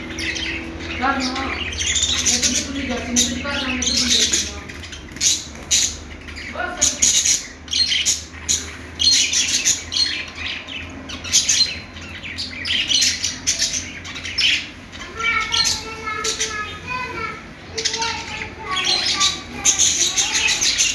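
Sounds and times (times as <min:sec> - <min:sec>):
budgerigars chattering: 0:00.0 - 0:20.9.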